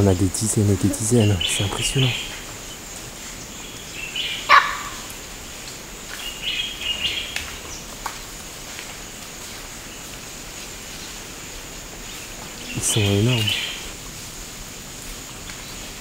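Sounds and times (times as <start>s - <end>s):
forest birds chirping: 0.0s - 16.0s
high hiss: 0.0s - 16.0s.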